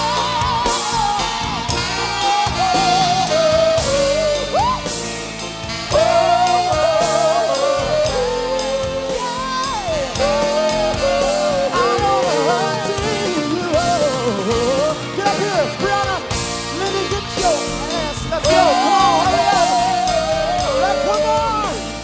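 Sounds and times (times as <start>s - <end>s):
drum kit: 0.0s - 22.0s
keyboards: 0.0s - 22.0s
person singing lead vocal: 0.0s - 22.0s.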